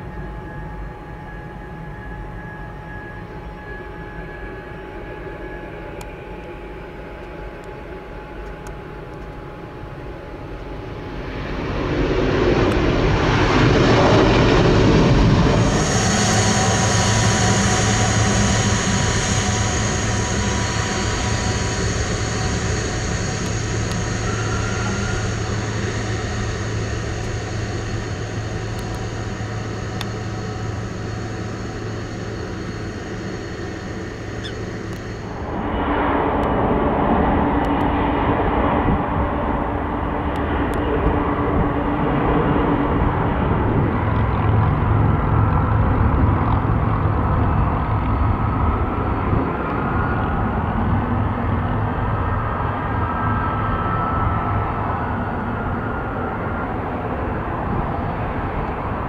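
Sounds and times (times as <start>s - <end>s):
jet engines passing: 9.6s - 59.0s.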